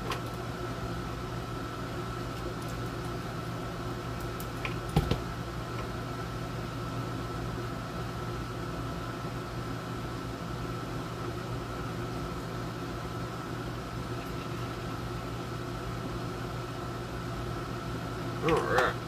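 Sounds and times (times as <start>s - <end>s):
air conditioner hiss and hum: 0.0s - 19.0s.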